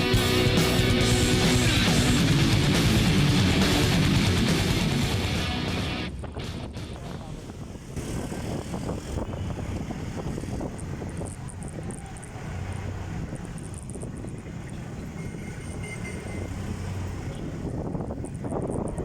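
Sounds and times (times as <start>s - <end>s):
vehicle running noise: 0.0s - 19.0s
wind rumble: 0.0s - 19.0s.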